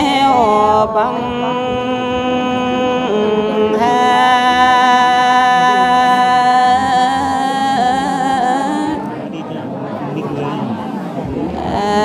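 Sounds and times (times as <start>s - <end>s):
women singing unaccompanied: 0.0s - 9.3s, 11.2s - 12.0s.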